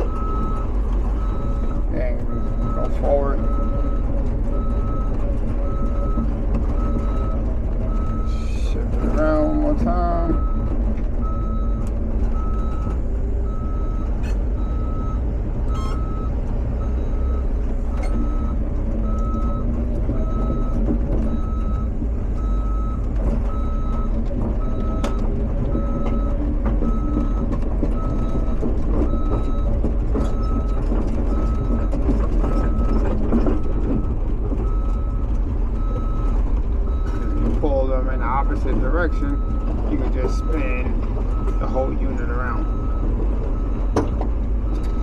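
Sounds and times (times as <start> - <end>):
diesel engine running: 0.0 - 45.0
excavator travel alarm beeping: 0.0 - 45.0.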